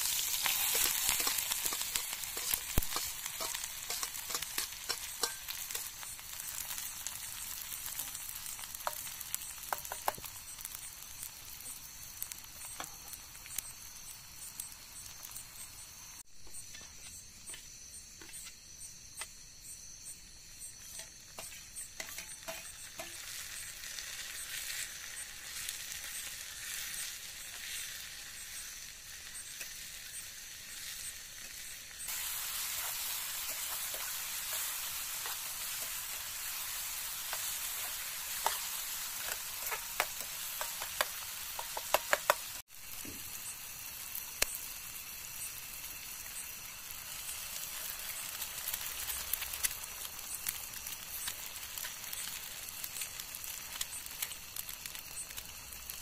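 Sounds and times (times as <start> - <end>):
oil sizzling in pot: 0.0 - 56.0.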